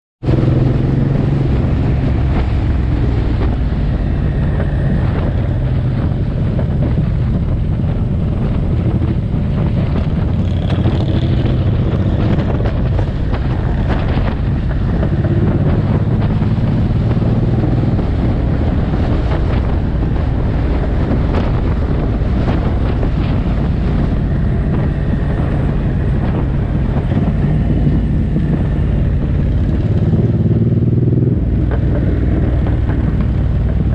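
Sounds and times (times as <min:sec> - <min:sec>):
motorcycle engine running: 0:00.2 - 0:33.9
wind noise on microphone: 0:00.2 - 0:33.9.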